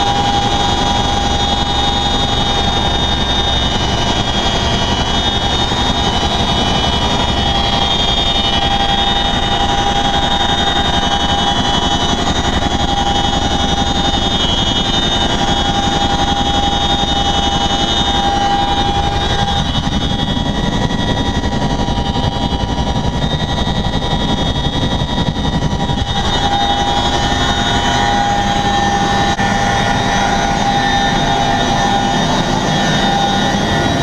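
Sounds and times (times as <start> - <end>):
helicopter engines and rotors din: 0.0 - 34.0
high whines: 0.0 - 34.0.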